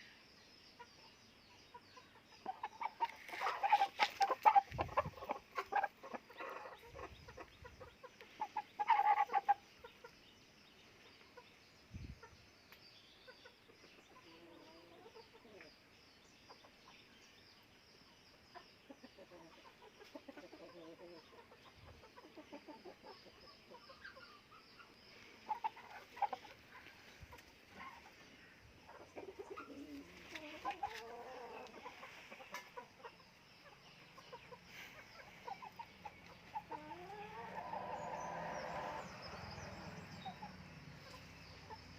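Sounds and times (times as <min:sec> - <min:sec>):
chickens clucking: 0:00.8 - 0:10.3, 0:13.2 - 0:17.7, 0:18.4 - 0:41.9.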